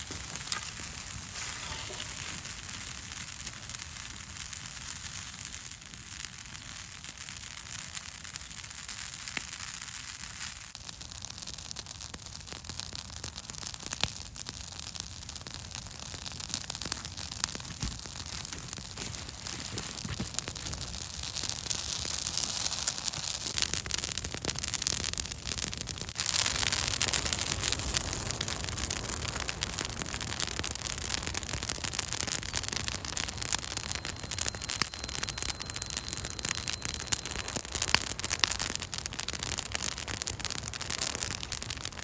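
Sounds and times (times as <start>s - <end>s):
brush fire crackling: 0.0s - 42.0s.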